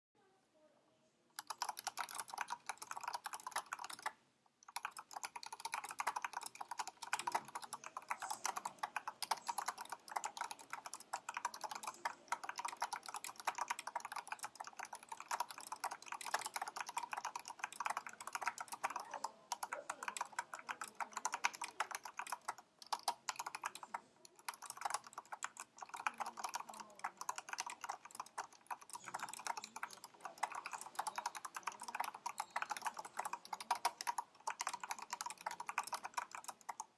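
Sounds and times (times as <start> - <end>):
fast typing on mechanical keyboard: 1.4 - 36.9.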